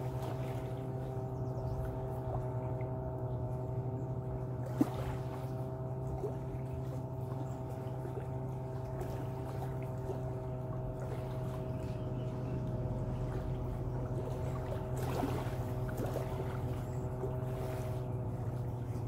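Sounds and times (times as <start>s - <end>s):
distant motorboat engine droning: 0.0s - 19.0s
small waves lapping at shore: 0.0s - 19.0s.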